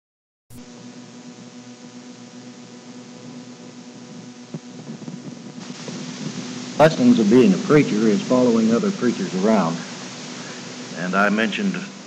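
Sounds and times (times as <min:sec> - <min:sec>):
low electrical hum: 0:00.5 - 0:12.0
recording hiss: 0:00.5 - 0:12.0.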